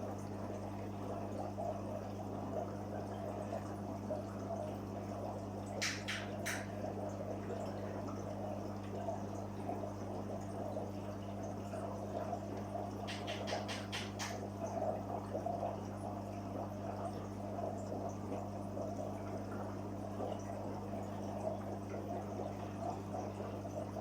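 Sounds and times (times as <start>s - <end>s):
water pump humming: 0.0s - 24.0s
water trickling and splashing: 0.0s - 24.0s.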